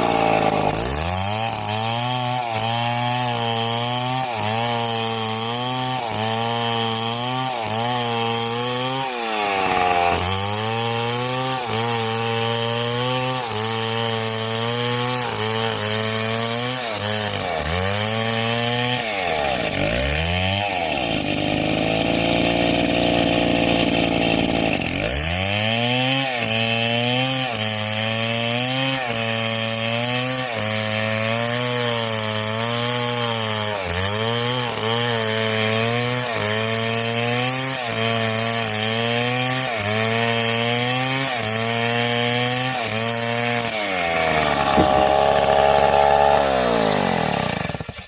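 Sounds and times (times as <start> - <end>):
chainsaw revving and idling: 0.0 - 48.0.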